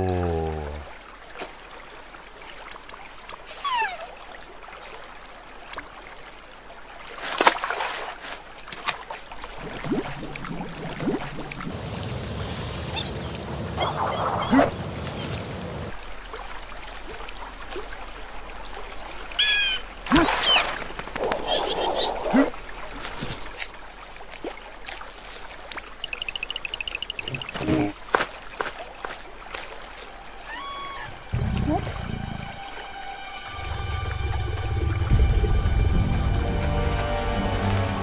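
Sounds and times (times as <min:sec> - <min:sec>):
water trickling and splashing: 0:00.0 - 0:38.0.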